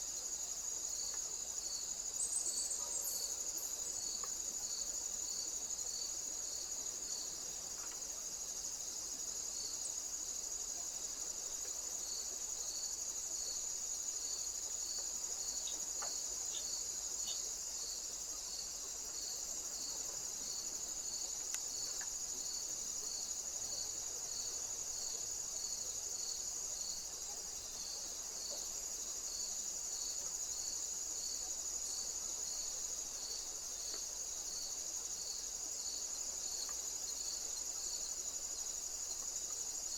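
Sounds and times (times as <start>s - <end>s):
insect chirping: 0.0s - 39.9s
crickets trilling: 0.2s - 39.9s.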